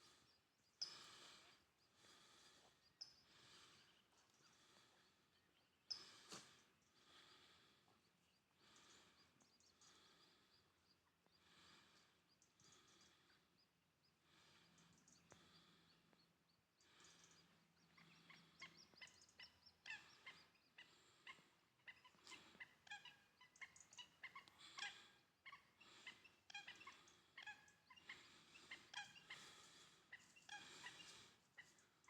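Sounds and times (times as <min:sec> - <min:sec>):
birds peeping: 0:00.0 - 0:32.0.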